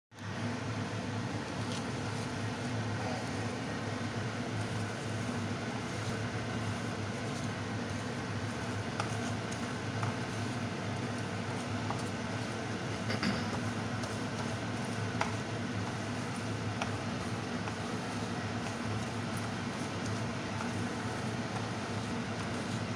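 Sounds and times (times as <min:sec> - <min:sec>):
steady mechanical hum: 0:00.1 - 0:22.9.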